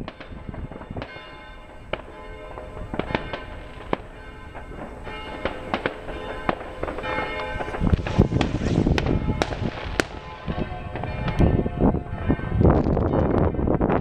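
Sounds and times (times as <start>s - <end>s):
firecrackers banging and crackling: 0.0s - 13.4s.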